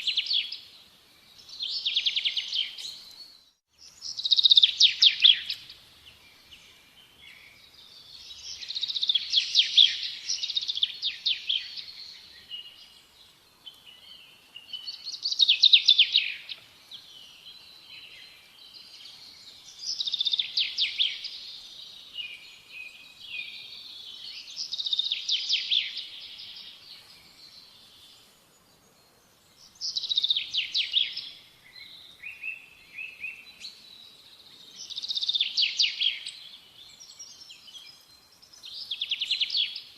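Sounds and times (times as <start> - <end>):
songbird singing trilled notes: 0.0 - 39.9.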